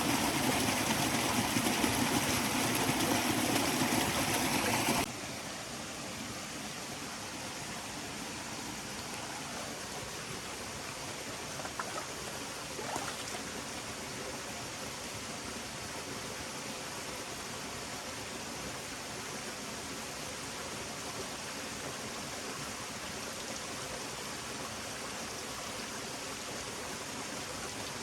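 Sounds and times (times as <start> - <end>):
stream water flowing: 0.0 - 28.0.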